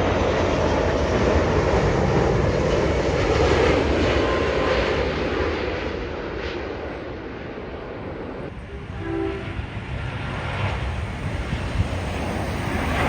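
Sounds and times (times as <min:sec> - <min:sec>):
jet airliner engine roar: 0:00.0 - 0:13.0.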